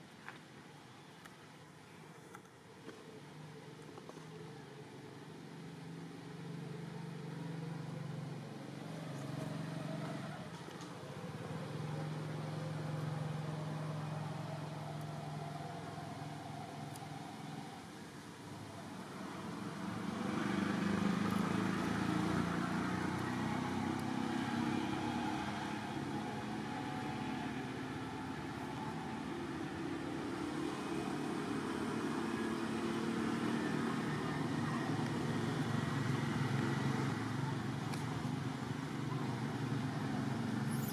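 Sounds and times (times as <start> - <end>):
vehicle engine running: 2.3 - 40.9.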